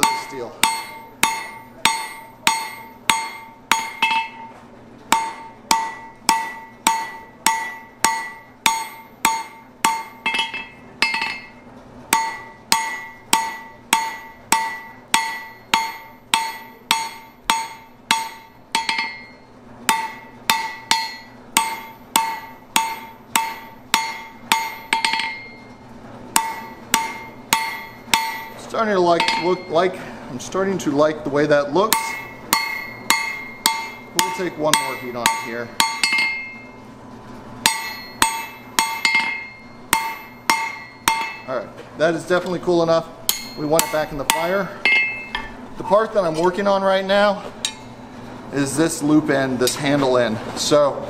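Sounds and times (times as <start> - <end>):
hammer striking steel on anvil: 0.0 - 30.0, 31.8 - 36.8, 37.6 - 41.7, 43.3 - 46.7, 47.6 - 48.0.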